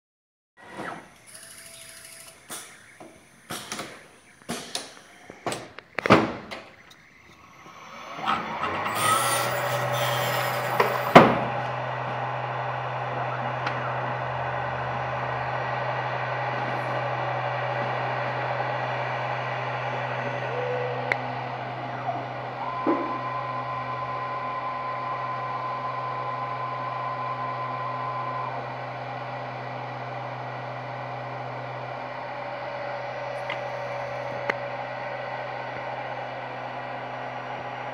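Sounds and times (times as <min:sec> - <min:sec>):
motor whine and hum: 0:00.6 - 0:37.9.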